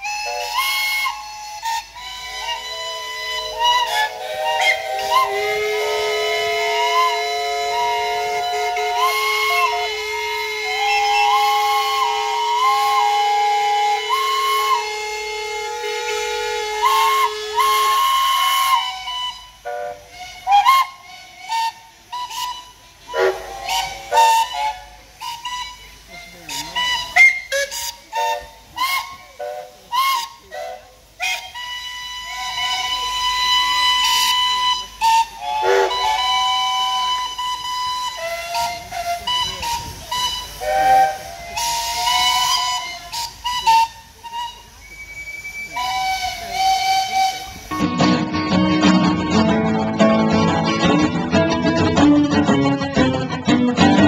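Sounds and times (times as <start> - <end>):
steam whistles tooting: 0.0 - 48.3
steam hissing: 0.0 - 54.0.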